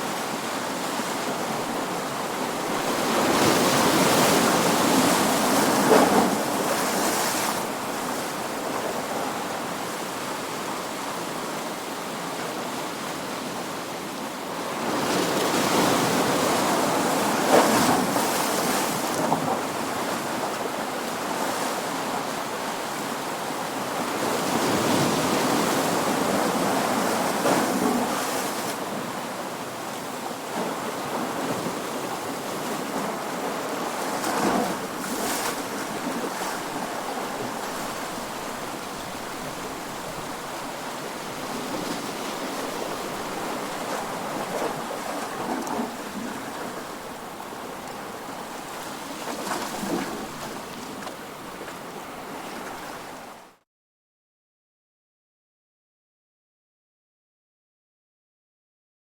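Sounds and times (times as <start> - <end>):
waves breaking on a shore: 0.0 - 53.6.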